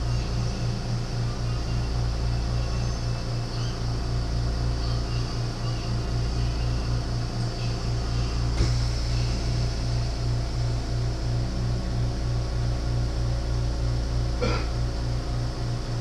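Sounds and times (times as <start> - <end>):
throbbing machine hum: 0.0 - 16.0.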